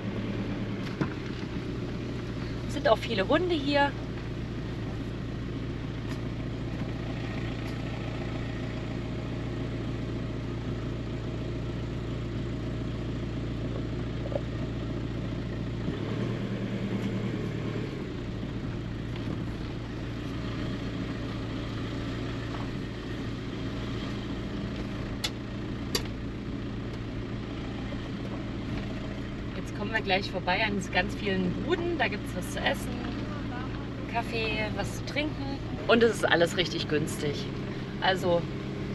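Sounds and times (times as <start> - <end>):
van diesel engine running: 0.0 - 38.9.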